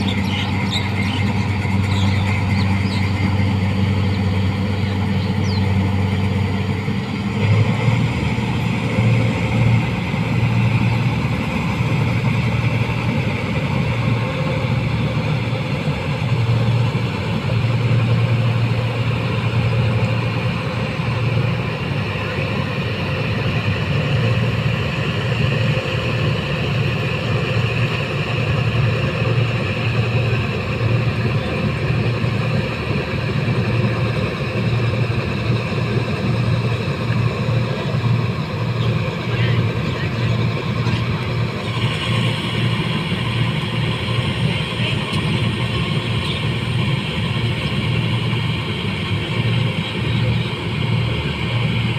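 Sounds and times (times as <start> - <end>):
harvester engine droning: 0.0 - 51.9.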